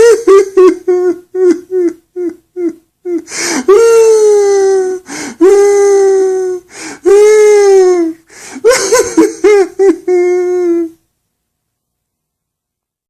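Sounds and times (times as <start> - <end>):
man sobbing: 0.0 - 11.0
man wailing like a baby: 0.0 - 11.0.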